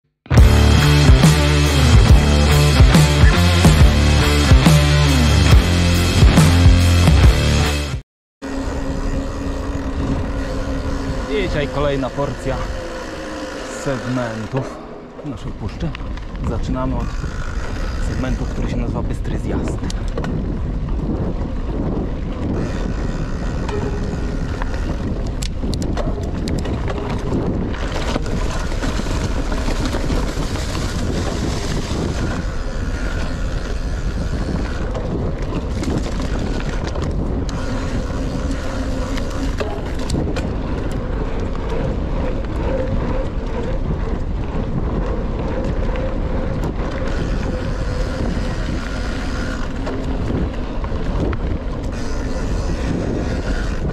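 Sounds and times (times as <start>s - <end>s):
bike clicks and rattles: 8.4s - 53.9s
bike tyre rumble: 8.4s - 53.9s
wind noise on microphone: 8.4s - 53.9s.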